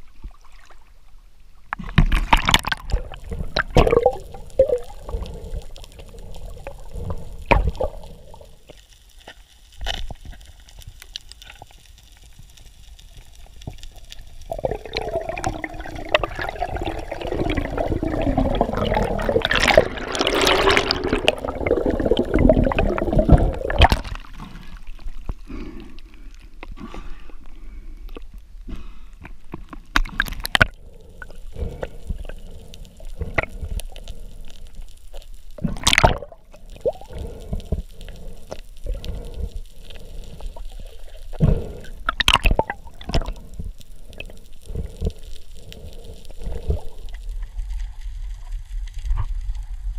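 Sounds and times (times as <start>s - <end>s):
water gurgling and sloshing: 0.0s - 8.8s, 13.7s - 28.4s, 29.4s - 49.9s.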